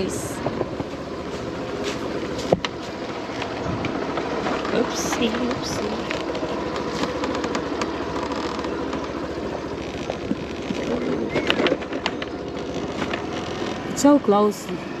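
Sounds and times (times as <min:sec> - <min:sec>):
small motorbike engine running: 0:00.0 - 0:15.0.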